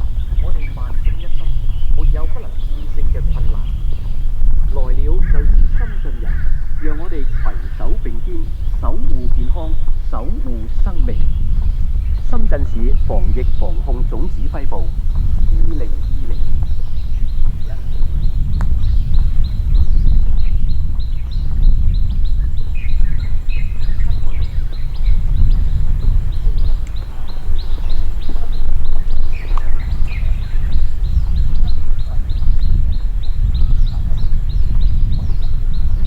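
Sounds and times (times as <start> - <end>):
birds chirping: 0.0 - 36.0
steady low rumble: 0.0 - 36.0.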